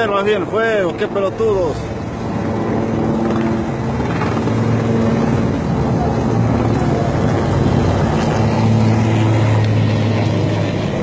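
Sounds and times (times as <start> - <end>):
helicopter flying overhead: 0.0 - 11.0.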